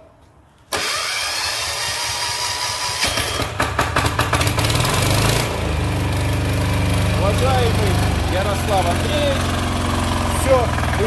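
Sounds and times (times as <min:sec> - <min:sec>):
diesel engine firing and idling: 0:00.7 - 0:11.0
electric starter cranking: 0:00.7 - 0:11.0.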